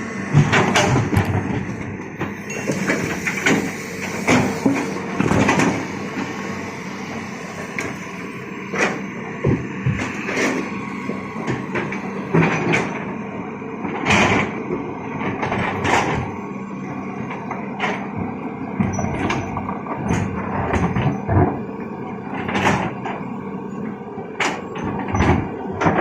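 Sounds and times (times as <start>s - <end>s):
excavator engine hum: 0.0s - 26.0s.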